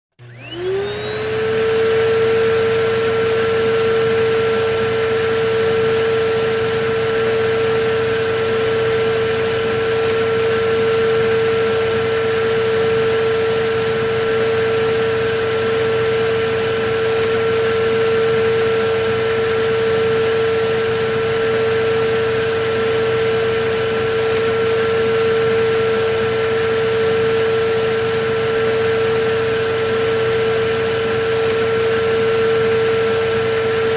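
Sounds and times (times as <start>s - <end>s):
vacuum cleaner motor whine: 0.1s - 33.9s.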